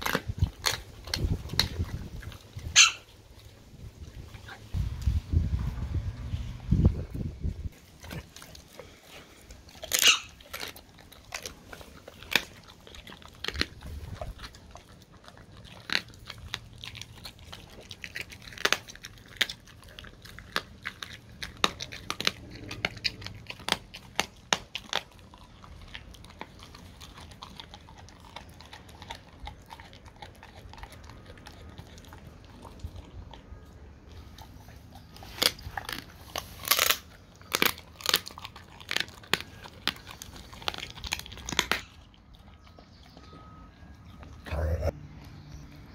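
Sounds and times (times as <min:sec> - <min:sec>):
dog crunching bones: 0:00.0 - 0:04.8, 0:07.7 - 0:45.9.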